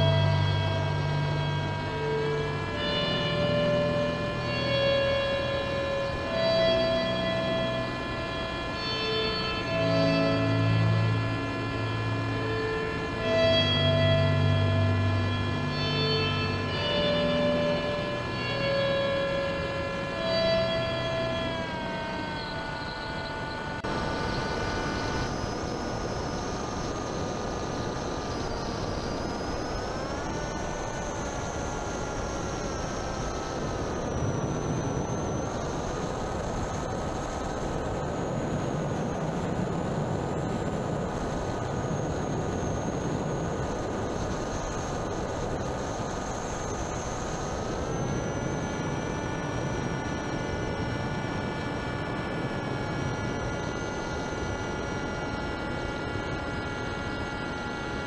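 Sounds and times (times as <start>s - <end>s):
model aircraft motor whine: 0.0s - 58.0s.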